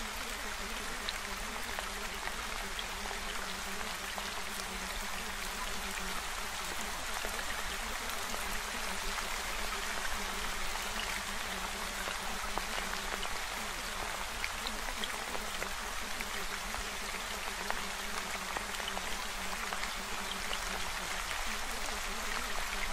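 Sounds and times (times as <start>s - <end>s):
water drip ticks: 0.2s - 22.9s.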